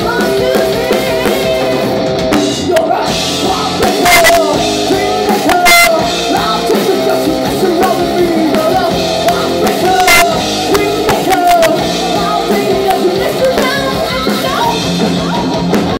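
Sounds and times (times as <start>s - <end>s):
drum kit: 0.0s - 15.9s
electric guitar: 0.0s - 15.9s
woman singing: 0.0s - 15.9s.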